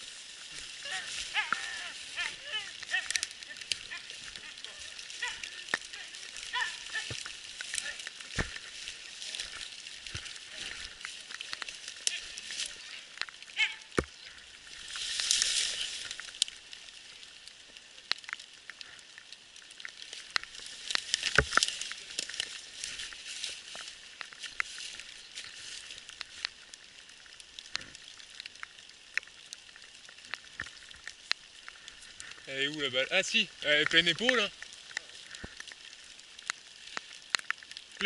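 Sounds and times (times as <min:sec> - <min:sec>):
dry leaves crackling and rustling: 0:00.0 - 0:38.0
twig cracks: 0:00.6 - 0:32.5, 0:33.5 - 0:38.0.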